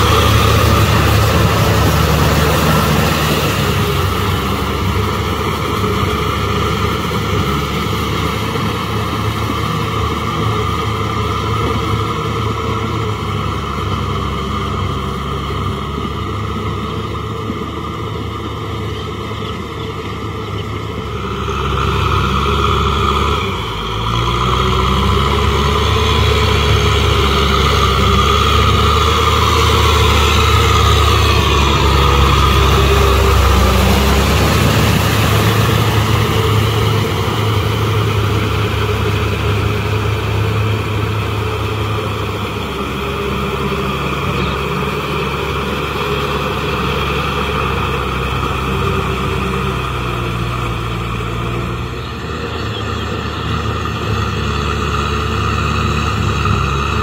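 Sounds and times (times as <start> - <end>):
tractor diesel engine drone: 0.0 - 57.0.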